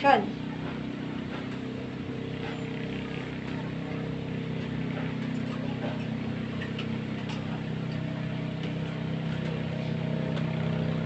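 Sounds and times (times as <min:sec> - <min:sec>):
motor humming: 0:00.2 - 0:11.0.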